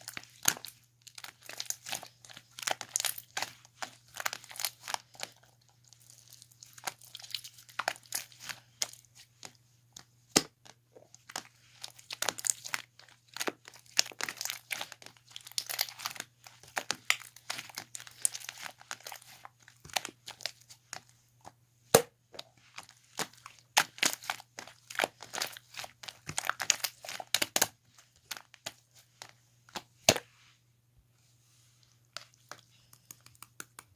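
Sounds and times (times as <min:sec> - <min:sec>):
hands squishing slime: 0:00.0 - 0:21.2, 0:22.4 - 0:30.5, 0:31.5 - 0:33.9.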